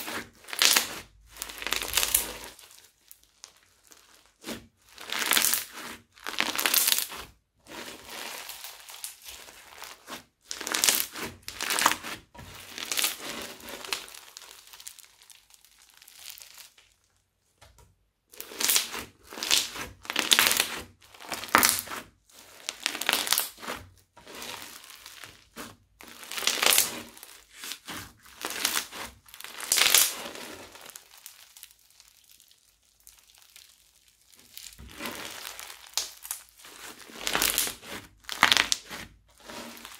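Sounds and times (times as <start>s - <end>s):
crunchy crackling of foam bead slime: 0.0s - 17.3s, 18.3s - 39.9s.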